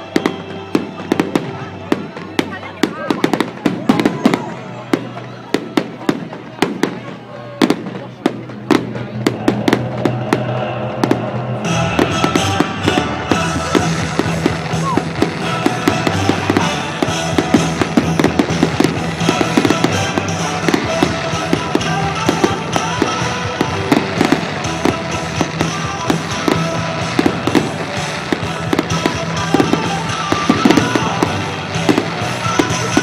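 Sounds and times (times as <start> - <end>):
fireworks bangs and crackles: 0.0 - 33.0
music playing: 0.0 - 33.0.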